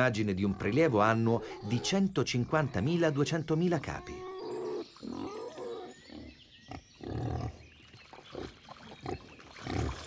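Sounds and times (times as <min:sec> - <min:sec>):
wild boar grunting: 0:00.0 - 0:03.1, 0:03.8 - 0:10.0.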